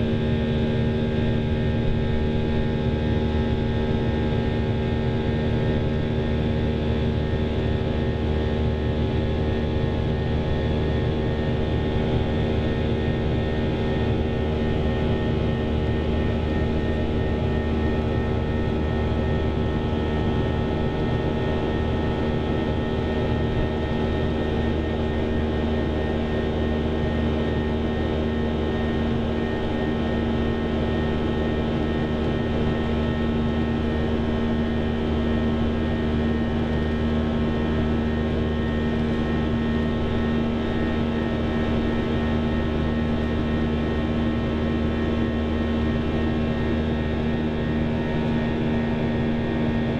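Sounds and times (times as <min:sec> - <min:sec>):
jet engine drone in cabin: 0:00.0 - 0:49.9.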